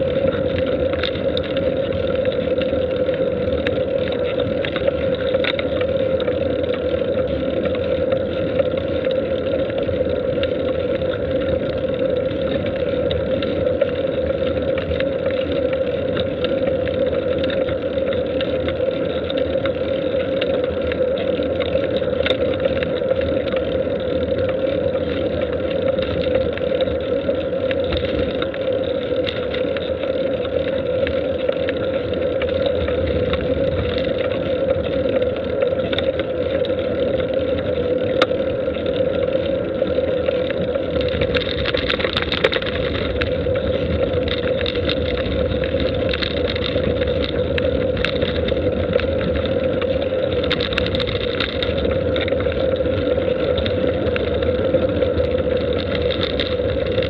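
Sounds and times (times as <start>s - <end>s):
faint clicks: 0.2s - 57.0s.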